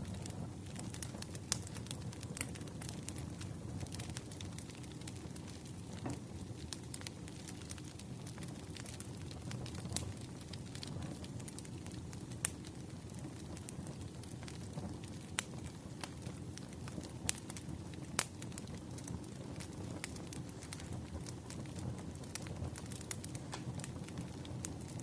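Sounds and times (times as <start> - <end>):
fire crackling and popping: 0.0 - 25.0
firewood burning with low rumble: 0.0 - 25.0.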